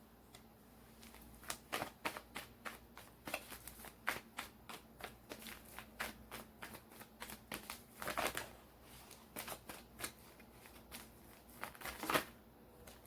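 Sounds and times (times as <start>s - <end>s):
cards being shuffled: 0.9s - 13.0s.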